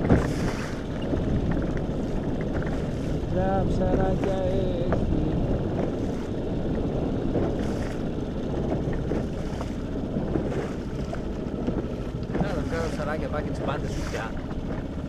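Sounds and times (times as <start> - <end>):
outboard motor running: 0.0 - 15.0
water rushing along hull: 0.0 - 15.0
wind on microphone: 0.0 - 15.0.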